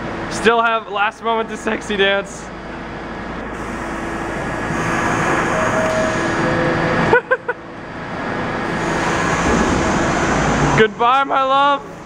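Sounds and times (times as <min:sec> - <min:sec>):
subway train hum: 0:00.0 - 0:12.0.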